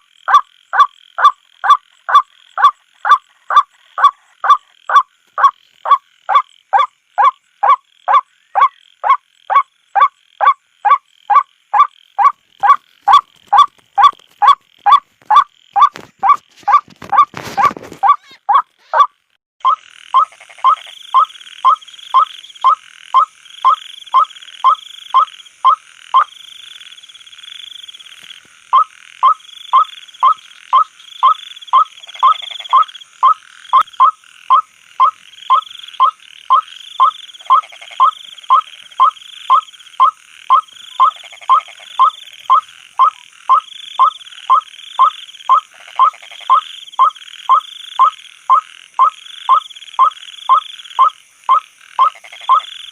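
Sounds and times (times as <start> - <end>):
waterhen croaking calls: 0.0 - 26.4, 28.7 - 52.9
night insects chorus: 0.0 - 52.9.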